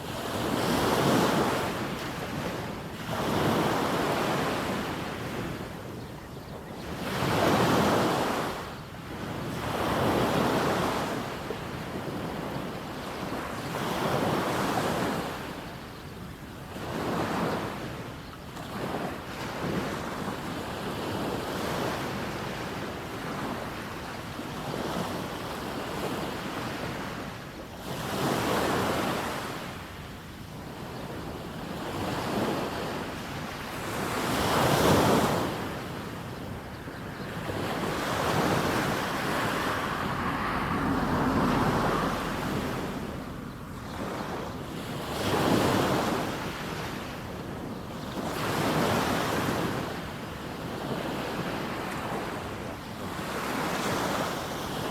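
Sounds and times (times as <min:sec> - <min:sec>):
waves breaking on beach: 0:00.0 - 0:06.0, 0:06.8 - 0:54.9.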